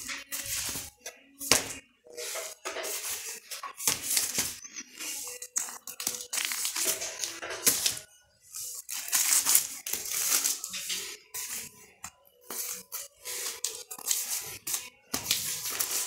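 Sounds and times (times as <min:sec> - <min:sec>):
record sleeves rustling and crinkling: 0:00.0 - 0:00.9, 0:01.5 - 0:11.8, 0:12.5 - 0:16.0.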